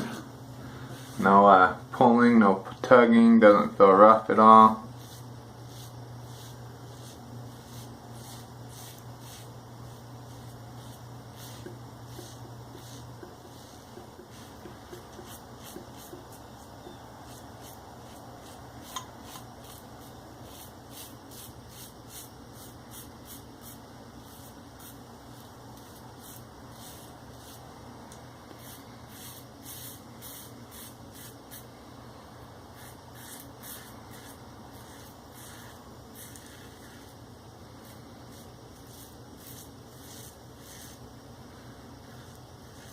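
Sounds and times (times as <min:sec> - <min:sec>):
razor scraping stubble: 0:04.9 - 0:27.6, 0:28.5 - 0:31.6, 0:32.8 - 0:37.2, 0:37.8 - 0:42.9.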